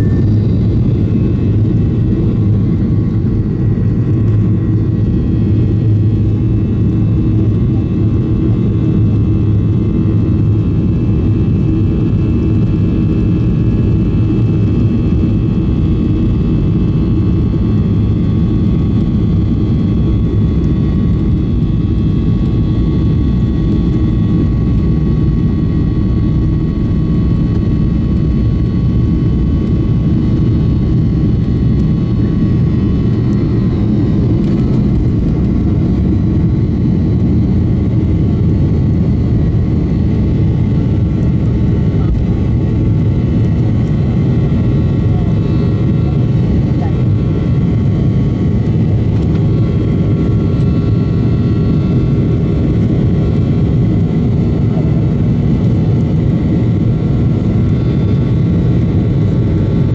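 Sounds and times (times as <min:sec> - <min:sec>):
high jet engine whine: 0:00.0 - 0:59.9
jet engine rush: 0:00.0 - 0:59.9.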